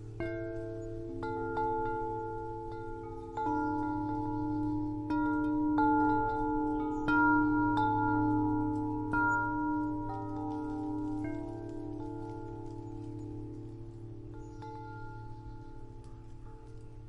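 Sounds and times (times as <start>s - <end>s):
steady low hum: 0.0s - 17.0s
wind chimes ringing: 0.0s - 17.0s.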